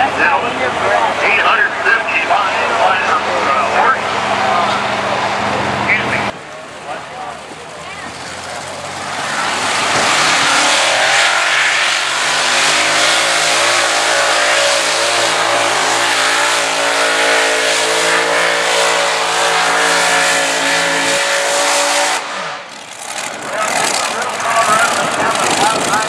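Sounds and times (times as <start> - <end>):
tractor engines at full throttle: 0.0 - 26.0.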